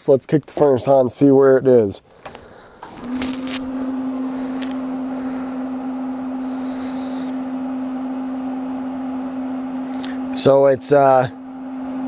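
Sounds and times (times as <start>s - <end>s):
blower fan humming: 0.5s - 12.0s.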